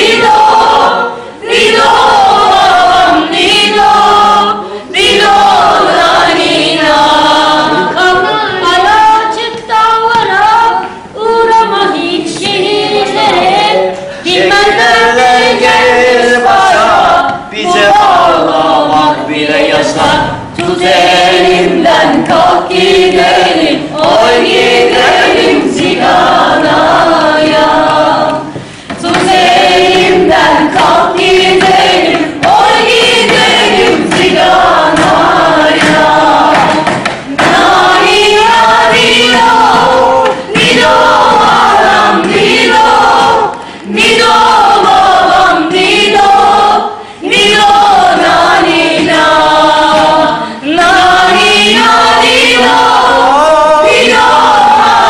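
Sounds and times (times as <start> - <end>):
group singing folk song: 0.0 - 55.0.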